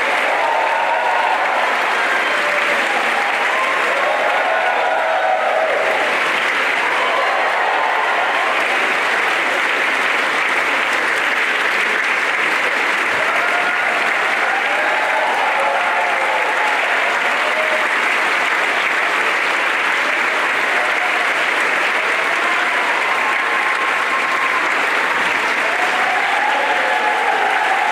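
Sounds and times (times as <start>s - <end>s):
crowd applauding: 0.0s - 27.9s.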